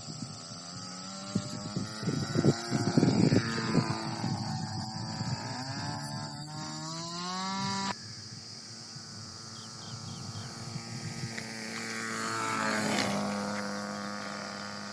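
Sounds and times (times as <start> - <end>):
model plane engine buzzing: 0.0 - 14.9.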